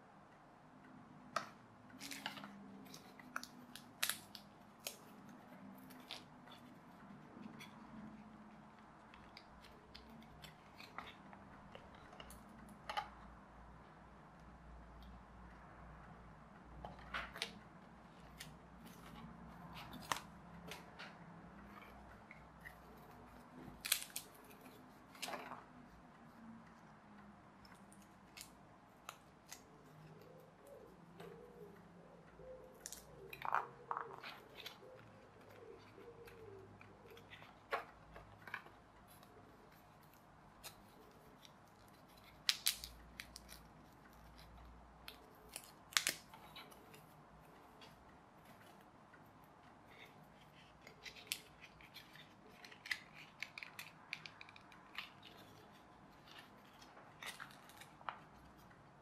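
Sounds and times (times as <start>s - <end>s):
small clicks and rustles of card: 1.3s - 13.4s, 16.7s - 31.9s, 32.6s - 59.0s.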